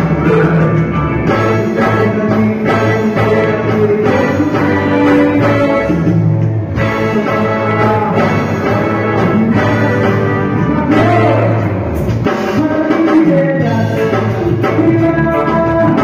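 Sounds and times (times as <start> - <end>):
live band playing loud music: 0.0 - 16.0.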